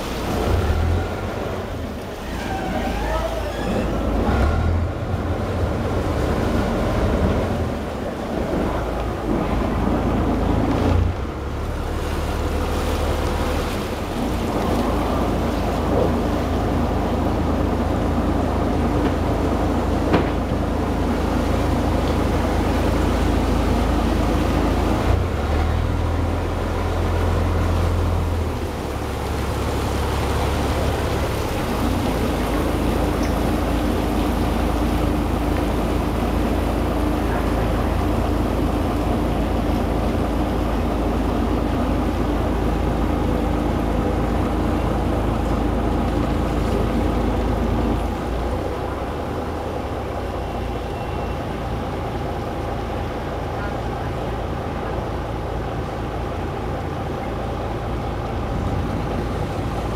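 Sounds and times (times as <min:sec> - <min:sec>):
boat engine droning: 0:00.0 - 0:59.9
water noise: 0:00.0 - 0:59.9.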